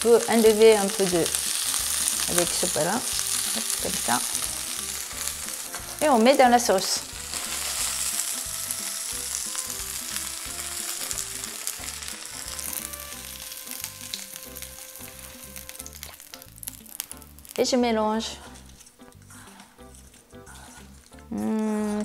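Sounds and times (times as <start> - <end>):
food sizzling in a frying pan: 0.0 - 18.0.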